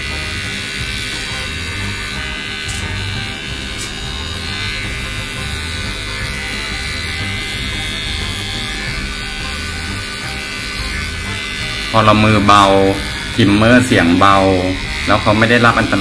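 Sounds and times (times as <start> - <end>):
electric clipper buzzing: 0.0 - 16.0.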